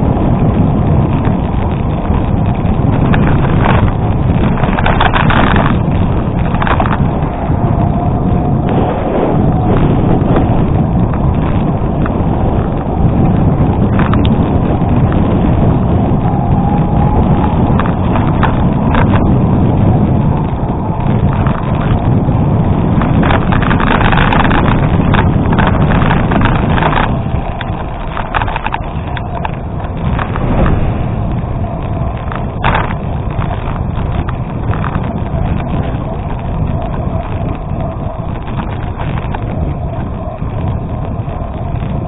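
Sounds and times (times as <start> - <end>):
bike tyres crunching on gravel: 0.0 - 42.0
wind noise on microphone: 0.0 - 42.0.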